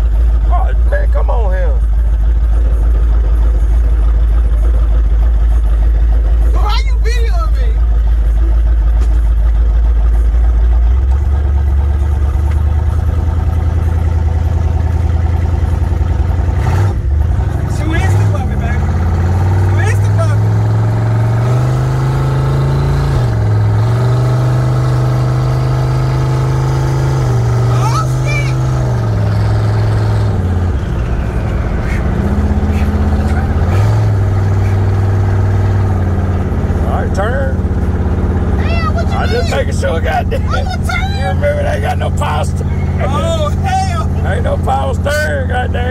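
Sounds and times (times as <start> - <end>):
truck engine accelerating: 0.0 - 45.9.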